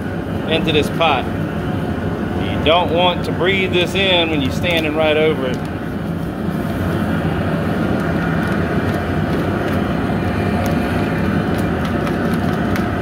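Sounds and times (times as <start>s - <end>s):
propane burner rumbling: 0.0s - 13.0s
water boiling: 0.0s - 13.0s.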